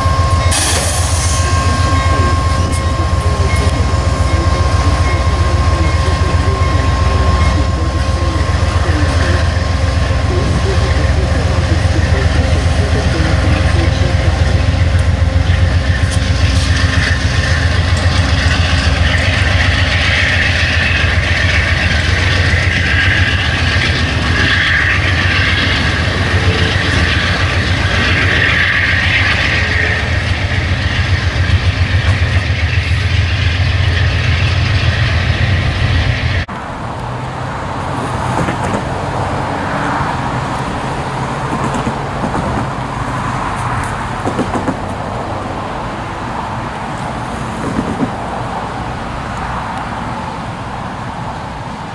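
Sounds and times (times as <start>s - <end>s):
distant train rumble: 0.0s - 51.9s
train wheels rumbling and clattering: 0.0s - 51.9s.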